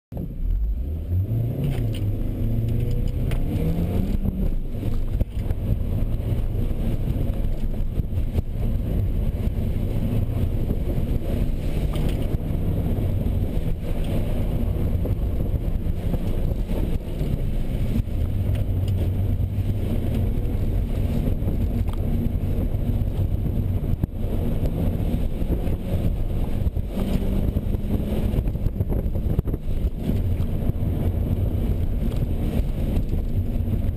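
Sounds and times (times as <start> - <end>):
car engine accelerating hard: 0.2 - 33.9.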